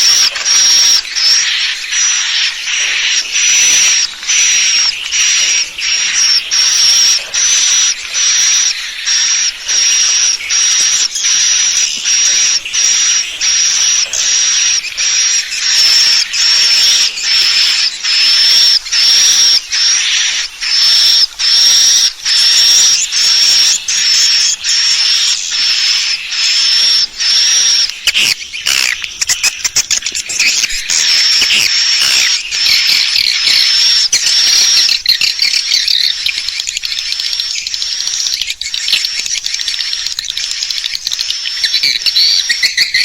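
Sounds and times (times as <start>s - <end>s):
rapid clicks and short chirps: 0.0s - 43.0s
swiftlets twittering: 0.0s - 43.0s.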